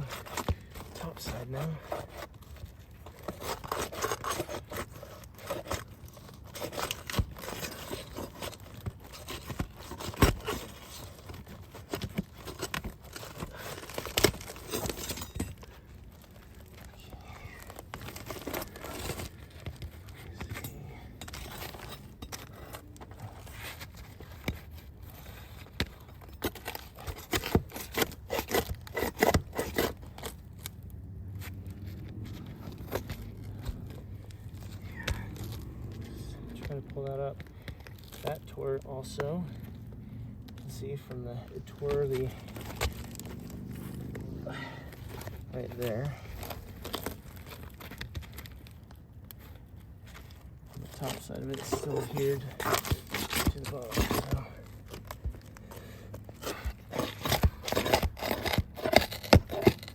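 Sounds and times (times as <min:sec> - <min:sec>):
shingles scraping and ripping: 0:00.0 - 0:59.9.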